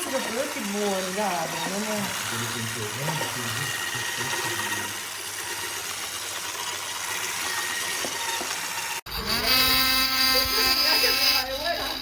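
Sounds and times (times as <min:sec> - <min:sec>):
immersion blender motor whirring: 0:00.0 - 0:12.0.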